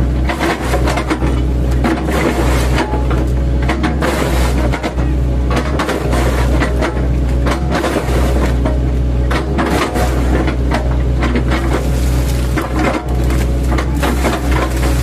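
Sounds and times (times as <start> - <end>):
excavator engine running under load: 0.0 - 15.0
bucket chopping tree trunks: 0.1 - 15.0.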